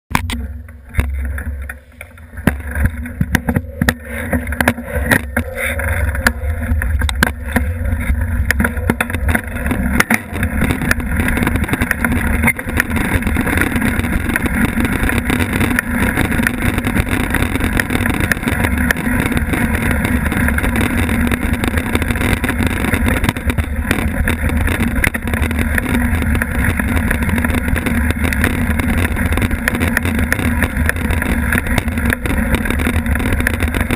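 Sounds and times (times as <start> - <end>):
bike rattling and knocking: 0.1 - 33.9
knobby tyres crunching on dirt: 0.1 - 33.9
wind rumble: 0.1 - 33.9.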